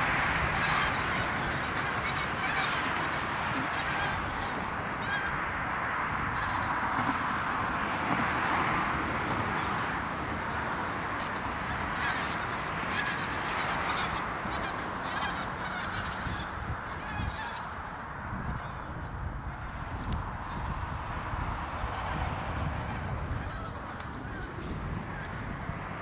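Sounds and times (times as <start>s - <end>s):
flock of waterbirds calling: 0.0s - 26.0s.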